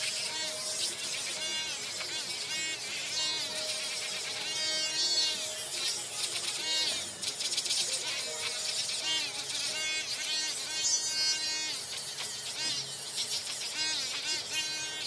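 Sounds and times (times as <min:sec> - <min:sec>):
rotary tool motor whining: 0:00.0 - 0:15.0.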